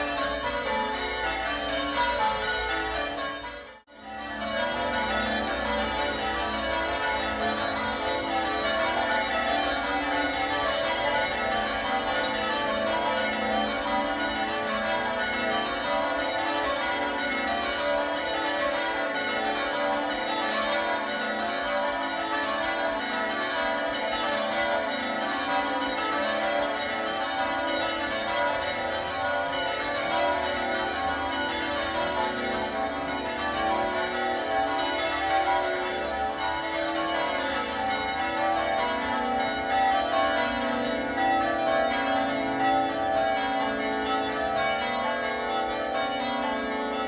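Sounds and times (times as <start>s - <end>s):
church bells ringing: 0.0s - 47.0s.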